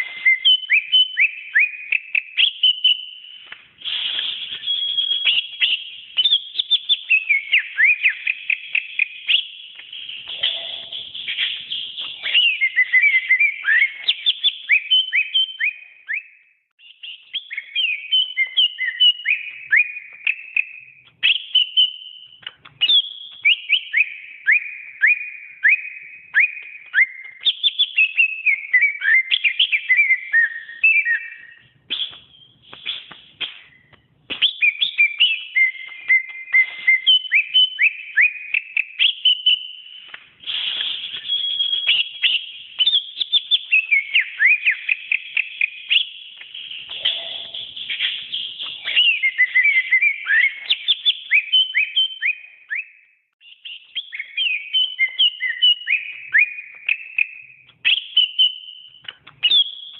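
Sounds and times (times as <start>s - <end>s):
bird singing: 0.0s - 40.2s, 40.8s - 59.9s.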